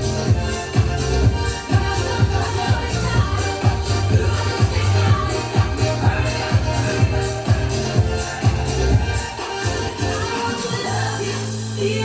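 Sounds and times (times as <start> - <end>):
held bass note: 0.0 - 10.2
electronic dance-pop music: 0.0 - 12.0.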